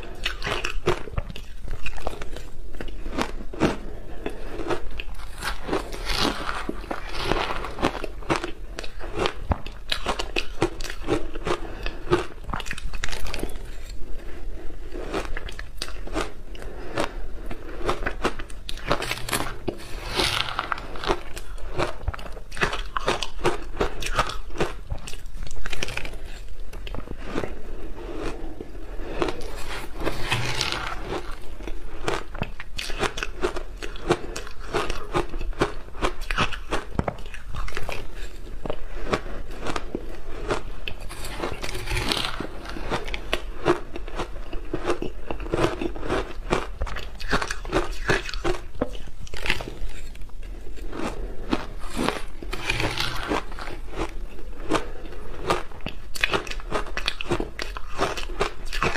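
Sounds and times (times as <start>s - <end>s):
chewing crunchy ice: 0.0s - 14.2s, 14.8s - 58.9s.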